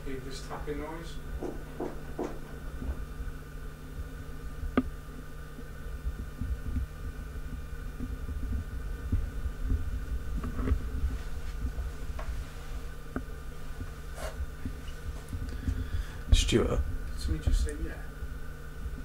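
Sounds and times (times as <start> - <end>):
low uneven rumble: 0.0 - 19.0
steady hum: 0.0 - 19.0.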